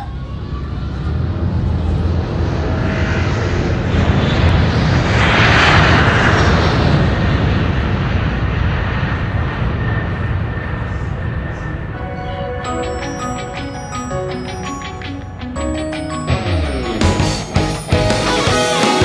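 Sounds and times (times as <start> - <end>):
jet airliner fly-by: 0.0 - 17.0.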